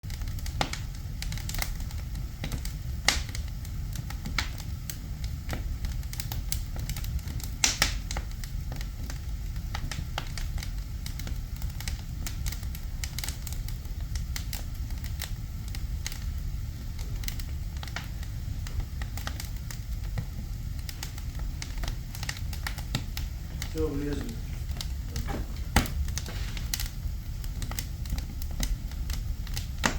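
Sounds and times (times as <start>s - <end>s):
steady low rumble: 0.0s - 29.9s
wood fire crackling and popping: 0.0s - 29.9s.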